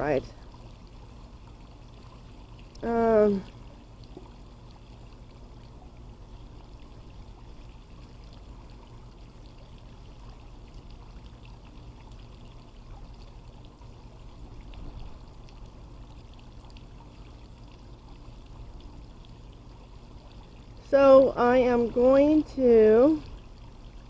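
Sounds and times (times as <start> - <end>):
low steady hum: 0.0 - 24.0
pool water trickling and splashing: 0.0 - 24.0
drip-like ticks: 0.4 - 21.0.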